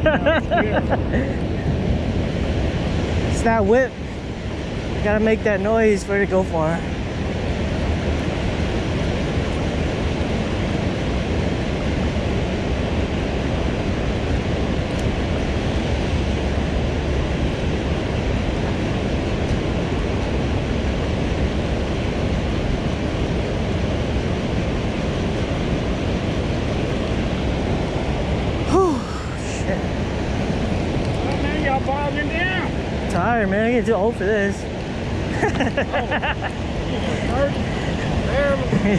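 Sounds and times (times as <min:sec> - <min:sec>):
water rushing through spillway: 0:01.4 - 0:38.9.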